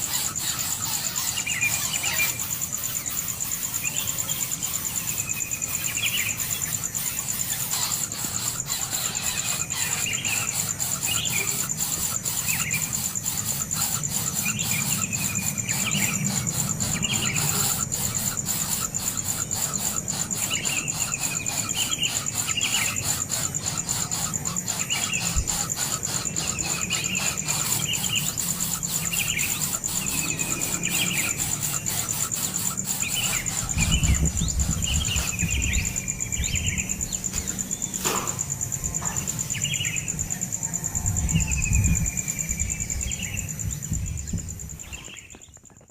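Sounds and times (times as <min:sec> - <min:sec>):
bird calling: 0:00.0 - 0:43.6
high-pitched insect drone: 0:00.0 - 0:45.9.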